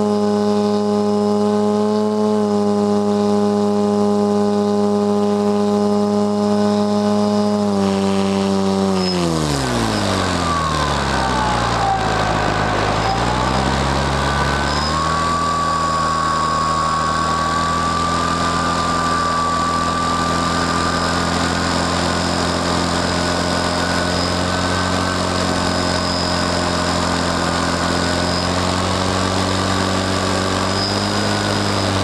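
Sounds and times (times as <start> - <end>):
model airplane motor humming: 0.0 - 32.0.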